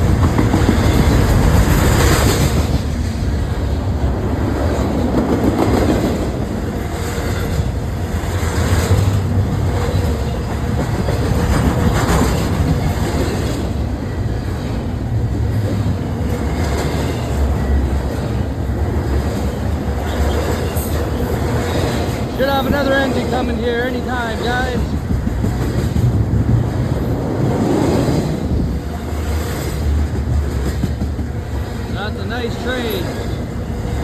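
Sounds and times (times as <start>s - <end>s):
freight train wheels on rails: 0.0s - 34.0s
train cars clattering: 0.0s - 34.0s.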